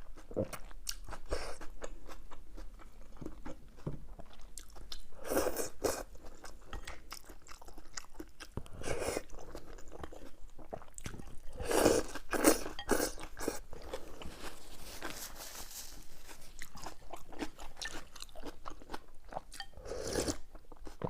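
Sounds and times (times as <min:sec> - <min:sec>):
chewing crunchy food: 0:00.0 - 0:21.0.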